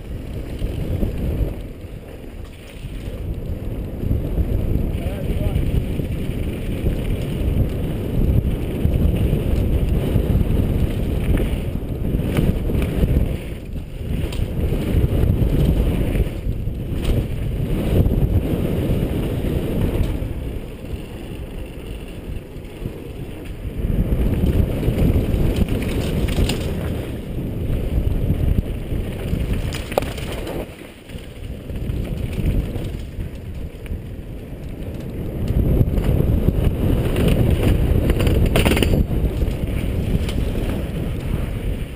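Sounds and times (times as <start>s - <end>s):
bike tyres rumbling on dirt: 0.0s - 41.9s
wind buffeting microphone: 0.0s - 41.9s.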